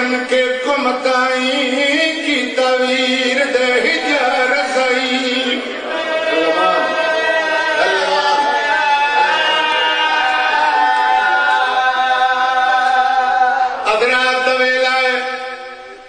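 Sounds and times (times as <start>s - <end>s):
man chanting into a microphone: 0.0s - 8.6s, 11.5s - 16.0s.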